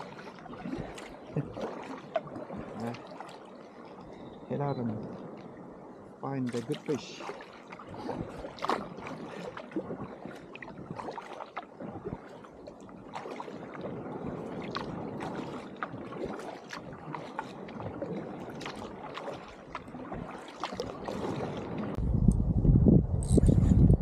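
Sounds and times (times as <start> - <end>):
paddle splashing in water: 0.0 - 22.0
water washing along hull: 0.0 - 22.0.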